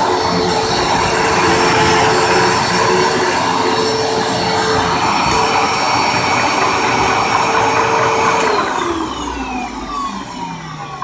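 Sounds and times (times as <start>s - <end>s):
upright vacuum cleaner running: 0.0s - 11.0s
vacuum motor winding down: 0.0s - 11.0s.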